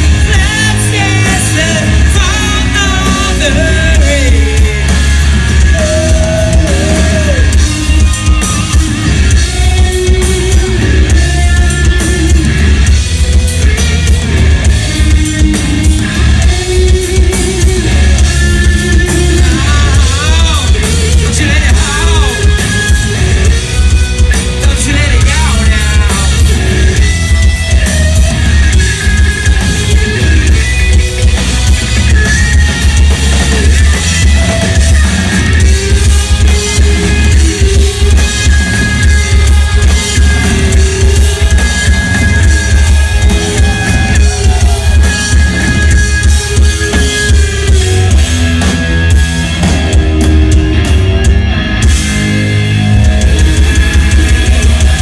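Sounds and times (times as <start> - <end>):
drums: 0.0 - 55.0
heavy bass: 0.0 - 55.0.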